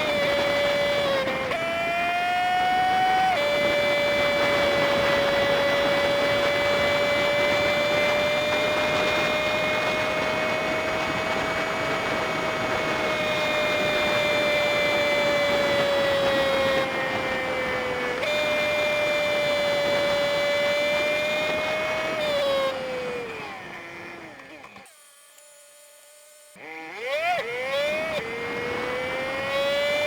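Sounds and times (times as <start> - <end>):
wind and road noise: 0.0 - 24.9, 25.8 - 30.0
sped-up engine high whine: 0.0 - 30.0.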